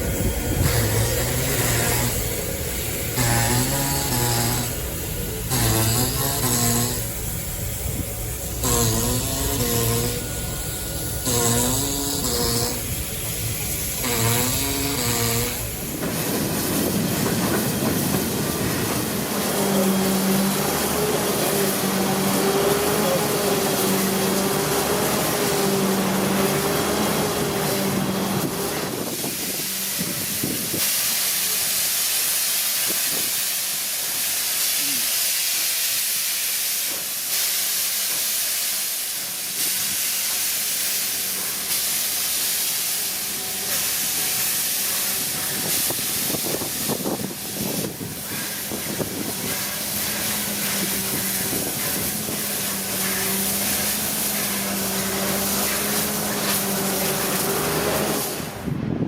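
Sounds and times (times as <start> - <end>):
steam hissing: 0.0 - 59.0
steam train rolling: 0.0 - 59.0.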